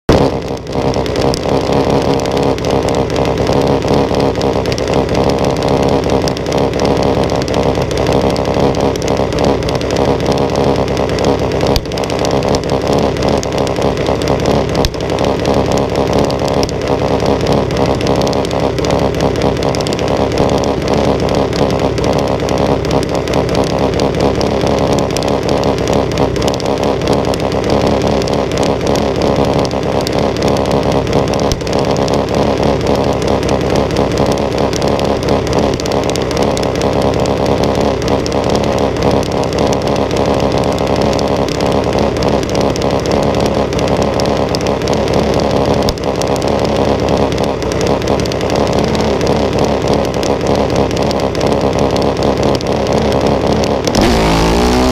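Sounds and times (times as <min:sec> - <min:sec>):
single-cylinder engine idling: 0:00.2 - 0:54.9.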